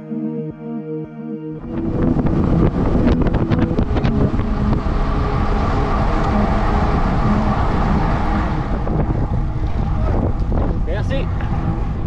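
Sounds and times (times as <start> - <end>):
tyres humming on asphalt: 1.6 - 12.0
wind on camera microphone: 1.6 - 12.0.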